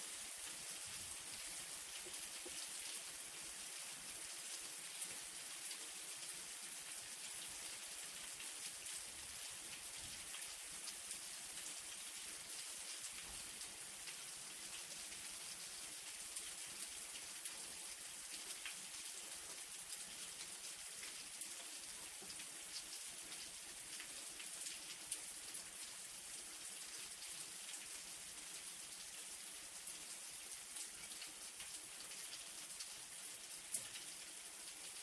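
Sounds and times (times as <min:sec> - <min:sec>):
light rain falling: 0:00.0 - 0:35.0
raindrops ticking on a surface: 0:00.1 - 0:35.0.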